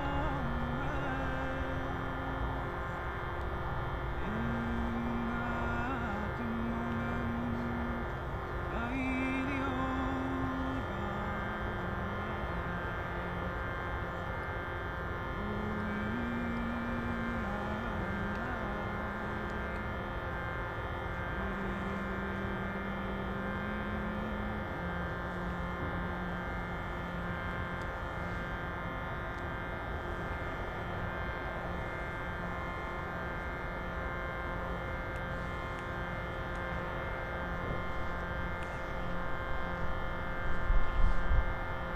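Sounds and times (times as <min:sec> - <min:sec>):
reedy drone: 0:00.0 - 0:41.9.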